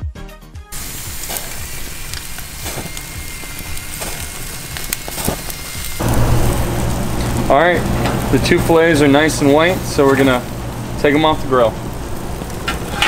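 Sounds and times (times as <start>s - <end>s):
food sizzling on a grill: 0.7s - 13.0s
low steady hum: 0.8s - 13.0s.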